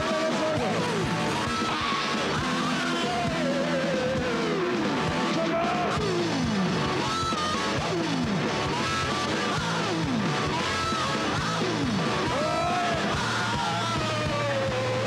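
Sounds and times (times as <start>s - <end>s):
distorted electric guitar: 0.0s - 15.0s
drums: 0.0s - 15.0s.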